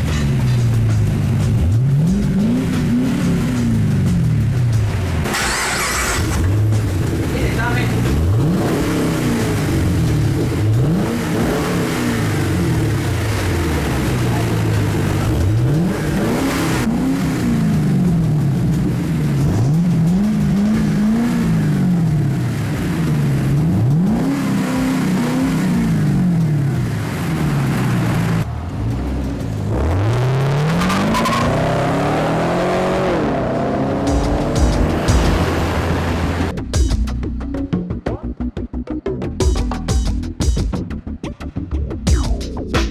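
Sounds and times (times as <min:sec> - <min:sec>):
car engine revving: 0:00.0 - 0:36.6.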